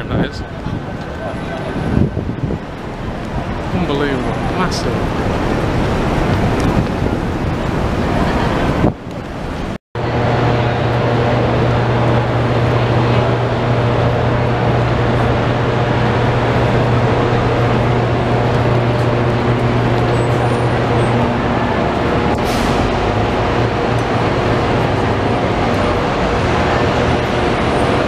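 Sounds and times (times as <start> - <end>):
road noise: 0.0 - 28.0
vehicle engine drone: 0.0 - 28.0.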